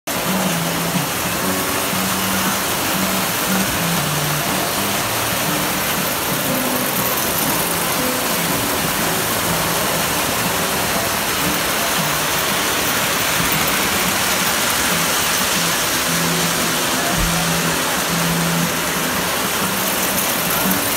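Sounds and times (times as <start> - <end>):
model trains running on track: 0.1 - 20.9.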